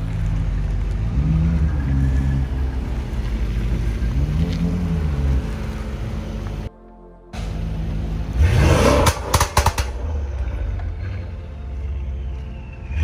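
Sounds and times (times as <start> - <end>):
car engine revving: 0.0 - 6.7, 7.4 - 12.0.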